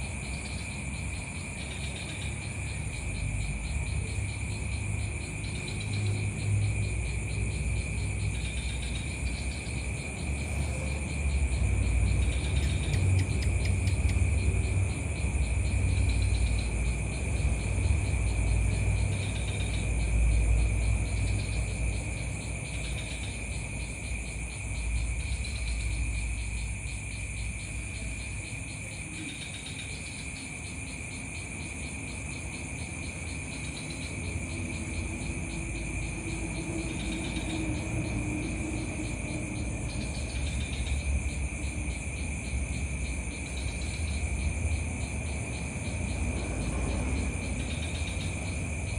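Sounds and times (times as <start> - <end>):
crickets chirring: 0.0 - 48.9.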